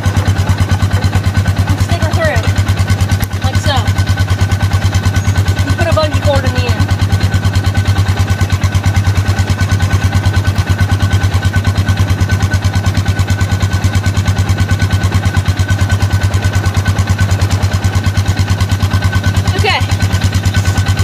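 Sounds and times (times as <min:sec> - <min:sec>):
utility vehicle engine idling: 0:00.0 - 0:21.0.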